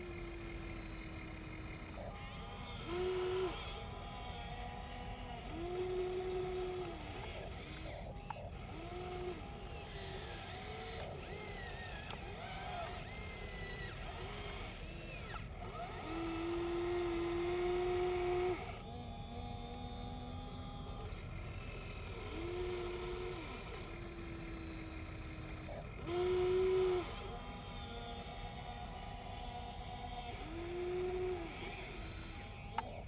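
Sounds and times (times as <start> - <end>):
electric motors whining: 0.0 - 33.0.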